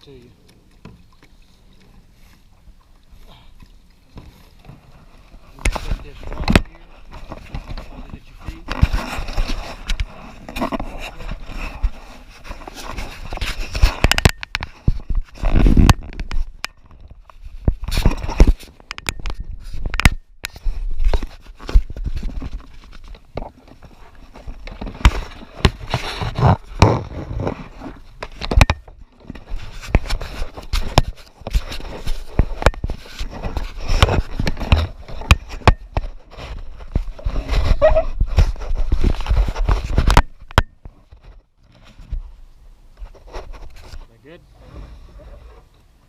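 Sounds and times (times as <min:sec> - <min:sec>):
camera bumping against kayak: 0:00.4 - 0:44.1.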